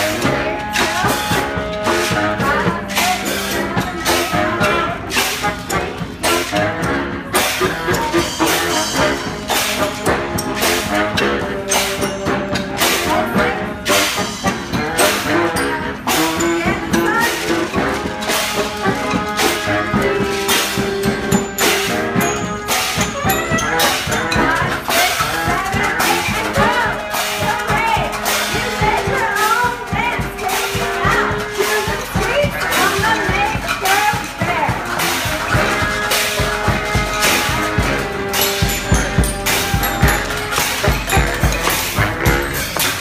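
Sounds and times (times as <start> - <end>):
brass band playing: 0.0 - 43.0
drum and cymbal beat: 0.0 - 43.0.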